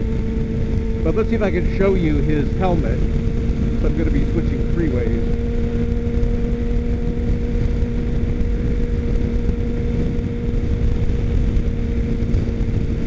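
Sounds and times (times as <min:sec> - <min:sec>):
motorcycle engine hum: 0:00.0 - 0:13.0
wind rush on microphone: 0:00.0 - 0:13.0.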